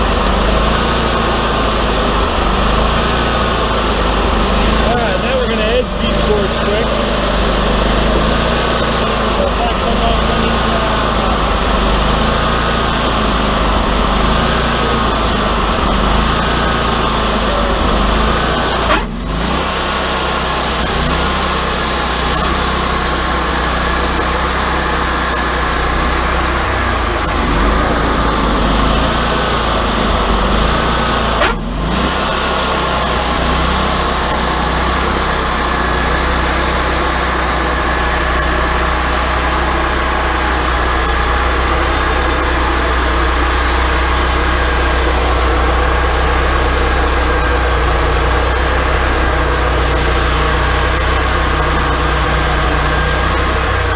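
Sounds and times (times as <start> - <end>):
sawmill cutting boards: 0.0 - 53.9.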